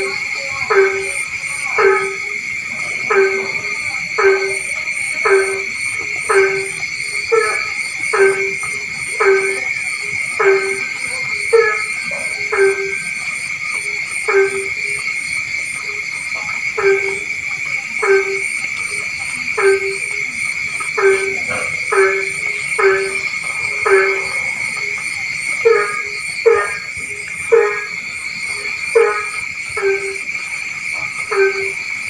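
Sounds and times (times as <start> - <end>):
frog calls: 0.0 - 32.0
high-pitched pulsing chorus: 0.0 - 32.0.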